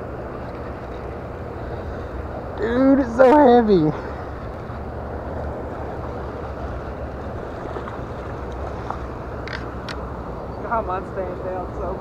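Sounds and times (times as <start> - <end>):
moving water: 0.0 - 12.0
wind: 0.0 - 12.0.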